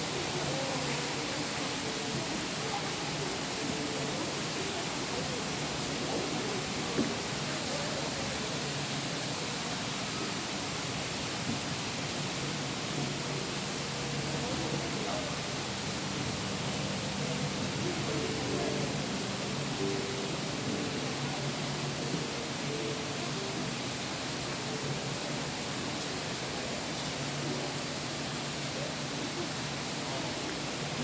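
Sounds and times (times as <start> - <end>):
faint voices: 0.0 - 31.0.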